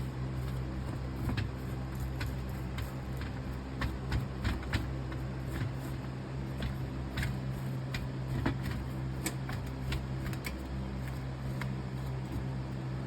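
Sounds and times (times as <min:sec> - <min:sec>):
low mechanical hum: 0:00.0 - 0:13.0
light clicks and taps: 0:00.4 - 0:12.5.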